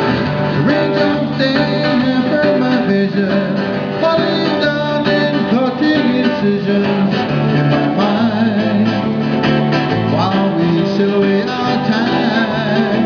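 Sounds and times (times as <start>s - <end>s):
live band playing: 0.0s - 13.0s
strummed acoustic string instruments: 0.0s - 13.0s.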